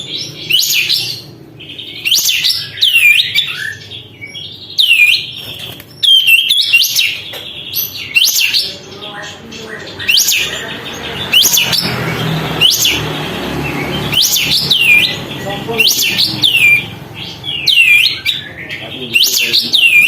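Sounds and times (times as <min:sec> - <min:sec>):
bulbul singing whistled phrases: 0:00.0 - 0:20.0.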